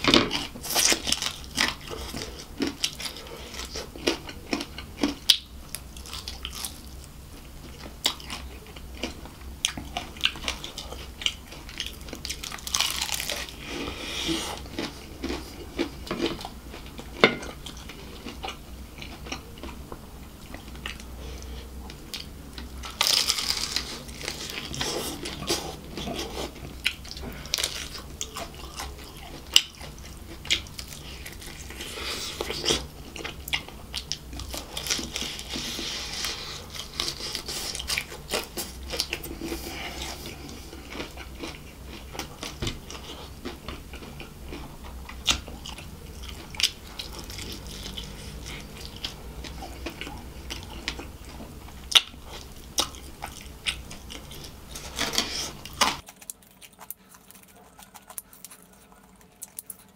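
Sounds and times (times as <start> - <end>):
crunchy chewing of fried chicken: 0.0 - 59.9.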